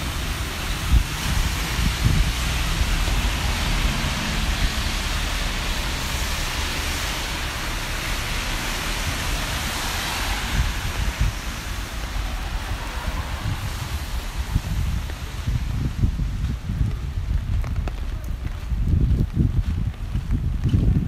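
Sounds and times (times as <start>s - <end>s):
rain hissing: 0.0s - 17.3s
traffic on wet streets: 0.0s - 21.0s.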